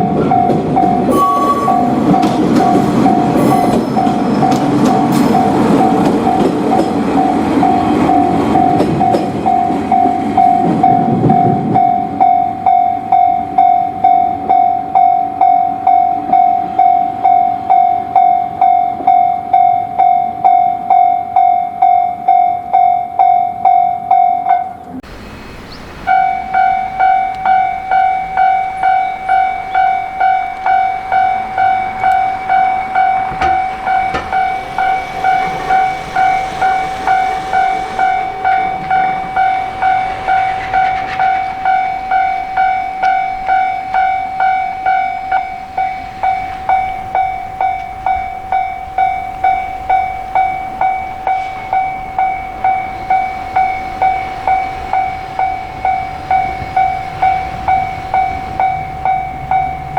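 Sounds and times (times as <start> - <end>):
level crossing bell ringing: 0.0 - 17.1, 26.1 - 59.9
train passing: 0.0 - 59.9.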